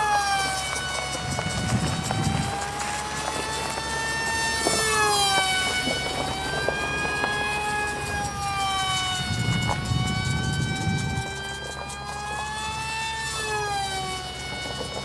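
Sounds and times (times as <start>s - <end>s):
electric motor propeller whine: 0.0s - 15.0s.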